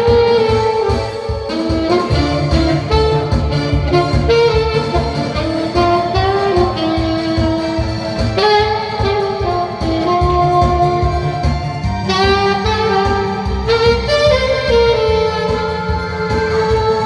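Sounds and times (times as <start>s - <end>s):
saxophone melody: 0.0s - 17.0s
accompaniment with bass beat: 1.2s - 17.0s.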